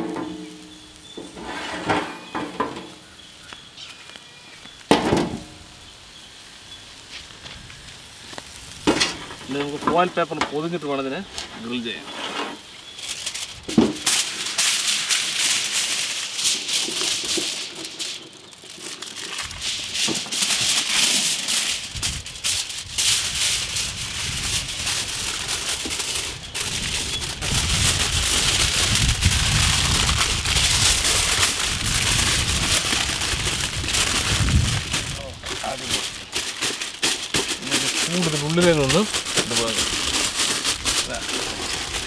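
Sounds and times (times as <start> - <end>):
aluminium foil crinkling: 0.0 - 12.0, 12.6 - 42.0.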